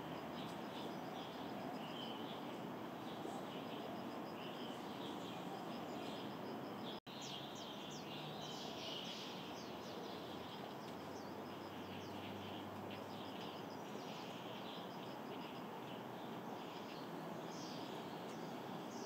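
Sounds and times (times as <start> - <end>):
constant background noise: 0.0 - 19.0
small birds chirping: 0.0 - 19.0.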